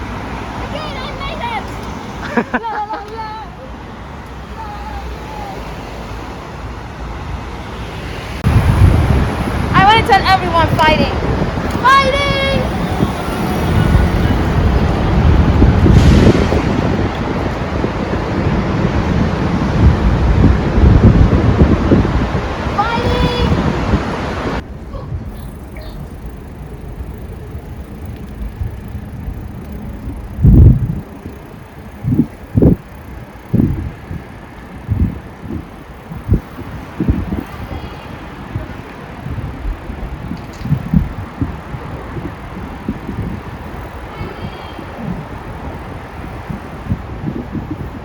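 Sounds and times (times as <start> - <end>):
wind buffeting microphone: 0.0 - 48.0
bicycle rolling rumble: 4.2 - 24.0, 24.6 - 48.0.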